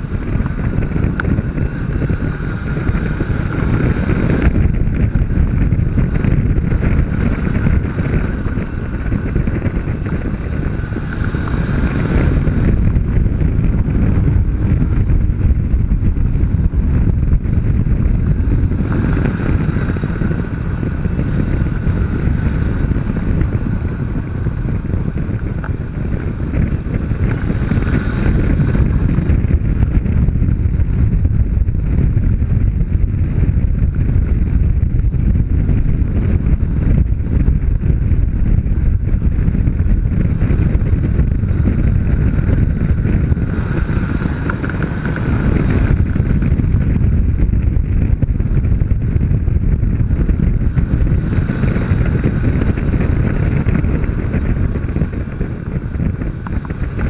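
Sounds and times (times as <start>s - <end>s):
motorcycle engine at speed: 0.0s - 57.0s
wind buffeting microphone: 0.0s - 57.0s.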